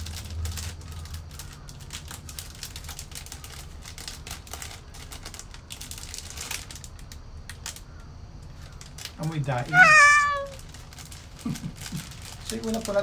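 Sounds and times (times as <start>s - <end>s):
plastic bag crinkling: 0.0s - 7.8s, 8.7s - 13.0s.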